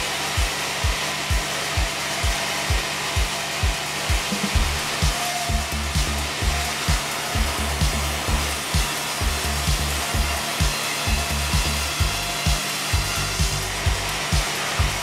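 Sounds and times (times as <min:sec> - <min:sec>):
band saw whirring: 0:00.0 - 0:15.0
music with bass beat: 0:00.0 - 0:15.0.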